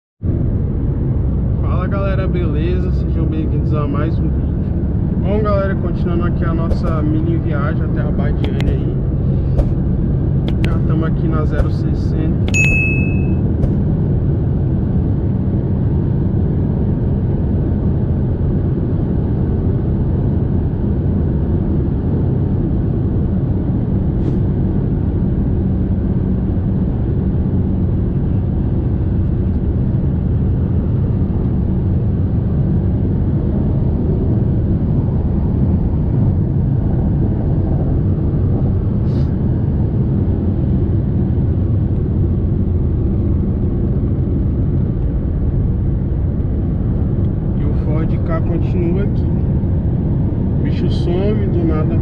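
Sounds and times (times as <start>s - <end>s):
engine and road noise drone: 0.2s - 52.0s.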